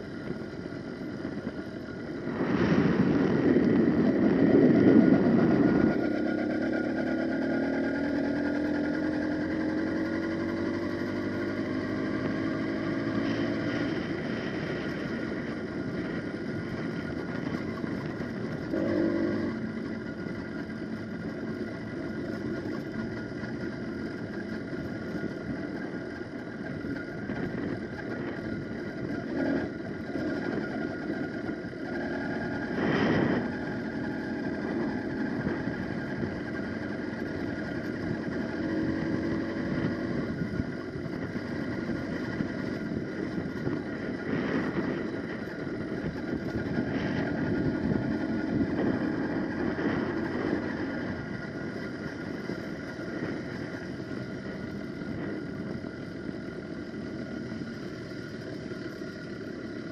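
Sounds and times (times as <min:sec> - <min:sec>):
two-stroke bicycle engine running: 0:00.0 - 0:59.9
wind and road noise: 0:00.0 - 0:59.9.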